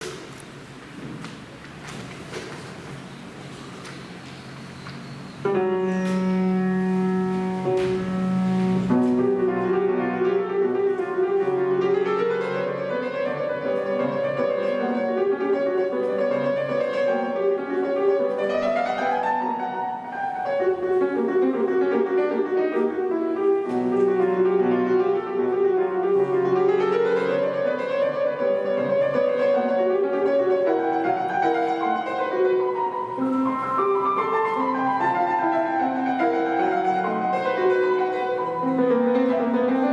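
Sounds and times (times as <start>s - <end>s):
solo classical piano: 0.0s - 39.9s.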